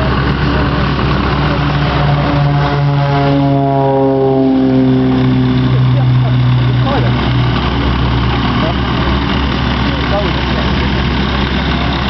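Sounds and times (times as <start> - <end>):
low engine hum: 0.0 - 12.0
propeller plane engines passing: 0.0 - 12.0.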